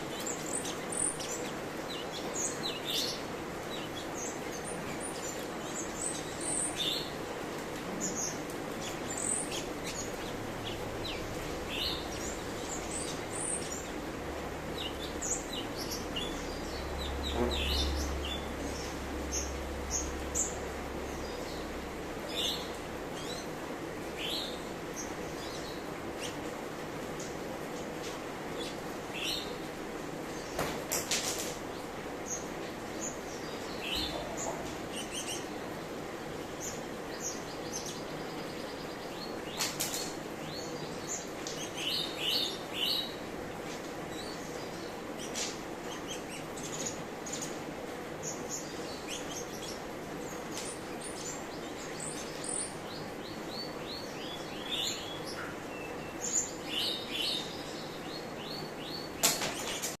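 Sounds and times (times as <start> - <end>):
steady background hiss: 0.0 - 60.0.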